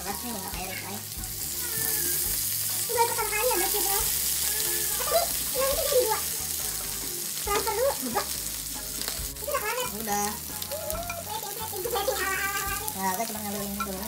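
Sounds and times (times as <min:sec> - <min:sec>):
steak sizzling in a grill pan: 0:00.0 - 0:14.0.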